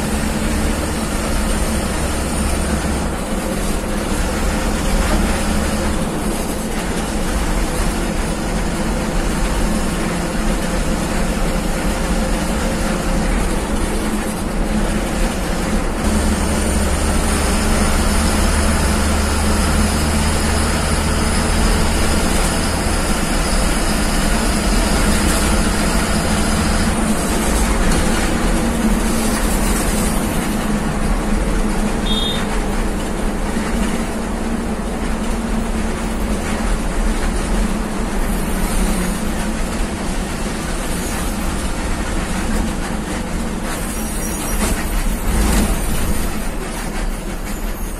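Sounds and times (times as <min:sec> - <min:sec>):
bus engine and road noise: 0:00.0 - 0:47.9.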